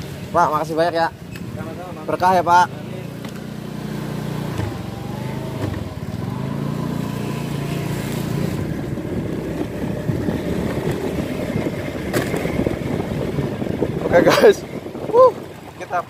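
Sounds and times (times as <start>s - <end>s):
motorcycle engine accelerating: 1.2s - 16.0s.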